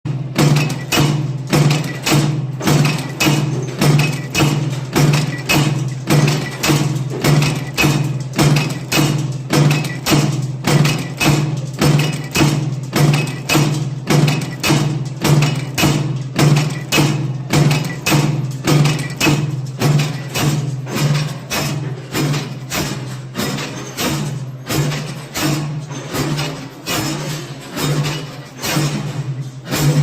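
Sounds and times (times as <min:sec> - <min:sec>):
forging machine knocking: 0:00.1 - 0:30.0.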